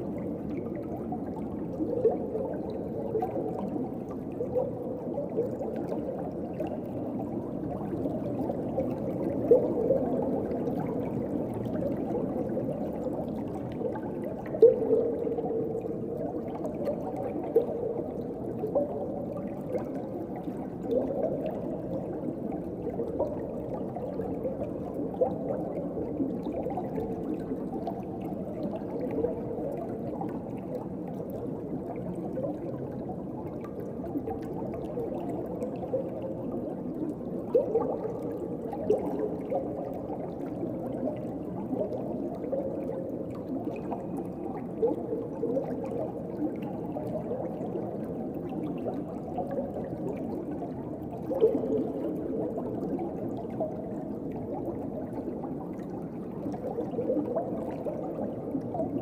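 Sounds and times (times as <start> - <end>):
gurgling bubbles: 0.0 - 59.0
muffled underwater wash: 0.0 - 59.0.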